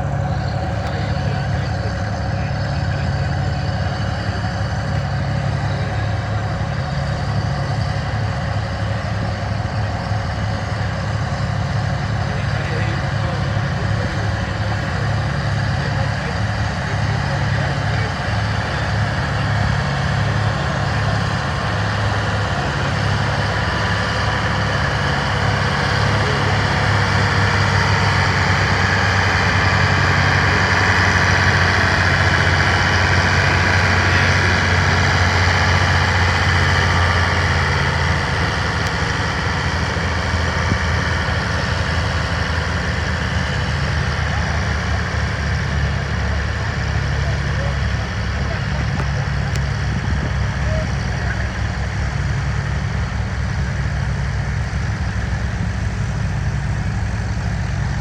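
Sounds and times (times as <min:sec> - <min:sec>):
tractor engine under heavy load: 0:00.0 - 0:58.0.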